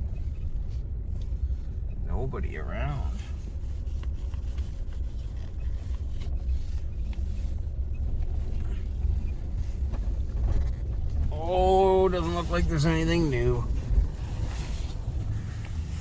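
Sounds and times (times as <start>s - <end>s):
vehicle driving slowly: 0.0s - 16.0s.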